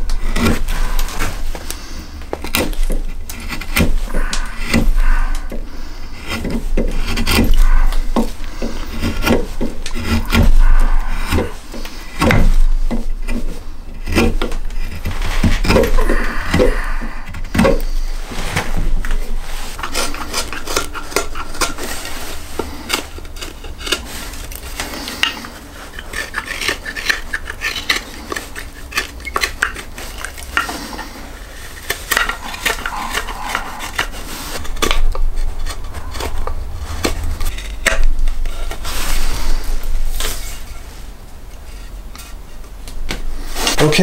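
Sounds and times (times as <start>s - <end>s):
knife whittling wood: 0.0s - 40.9s.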